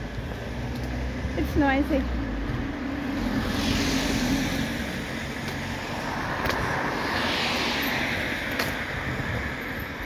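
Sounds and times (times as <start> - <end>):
cars passing on street: 0.0 - 10.0.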